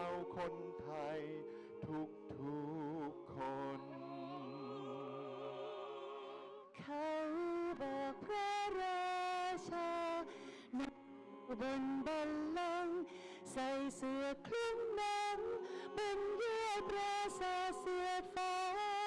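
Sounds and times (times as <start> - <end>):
vocal ensemble singing a cappella: 0.0 - 19.0.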